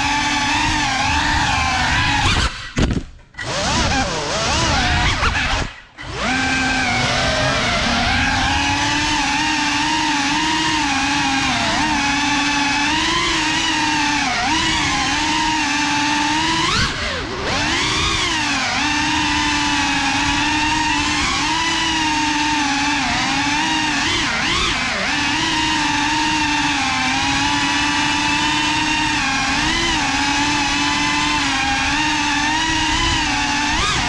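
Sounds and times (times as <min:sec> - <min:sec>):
quadcopter motors whining: 0:00.0 - 0:34.0.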